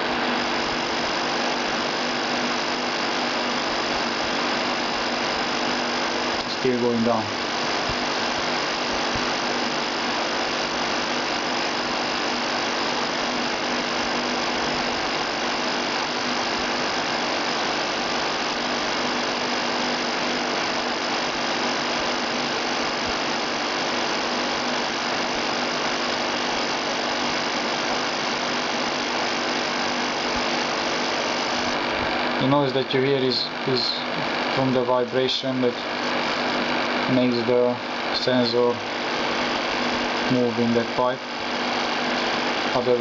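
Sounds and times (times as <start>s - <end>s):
electric fan running: 0.0s - 43.0s
sensor buzzing rattle in pipe: 0.0s - 43.0s.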